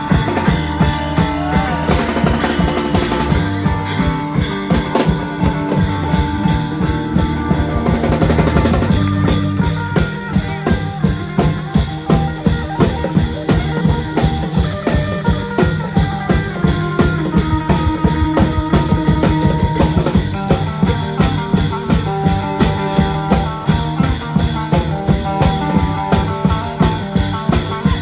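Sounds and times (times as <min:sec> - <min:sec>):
drums beating steady rhythm: 0:00.0 - 0:28.0
sustained melody lines: 0:00.0 - 0:28.0.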